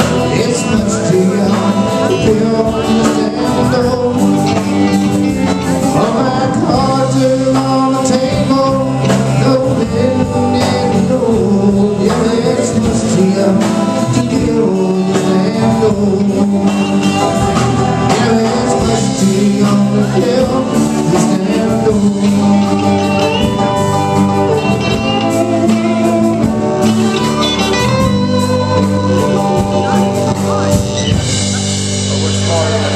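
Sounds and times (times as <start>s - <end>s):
electric guitars: 0.0s - 32.9s
person singing lead vocal: 0.0s - 32.9s.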